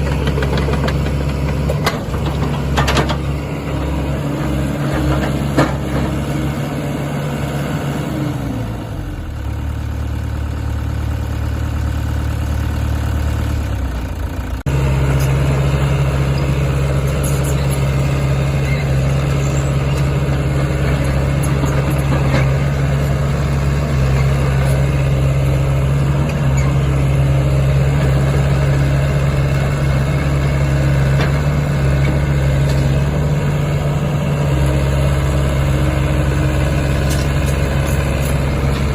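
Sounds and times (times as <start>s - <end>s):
diesel excavator engine running: 0.0s - 38.9s.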